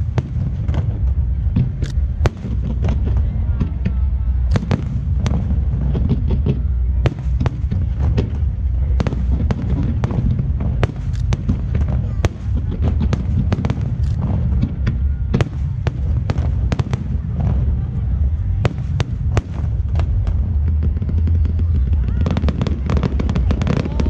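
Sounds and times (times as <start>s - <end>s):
fireworks crackling pops: 0.0s - 24.0s
fireworks rumbling and banging: 0.0s - 24.0s.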